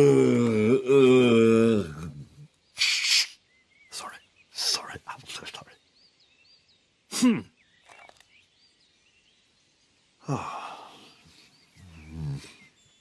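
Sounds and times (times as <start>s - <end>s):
faint birdsong chirping: 0.0s - 13.0s.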